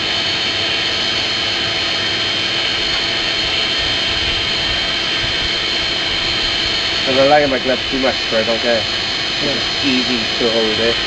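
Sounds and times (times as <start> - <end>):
air blower whining: 0.0 - 11.0.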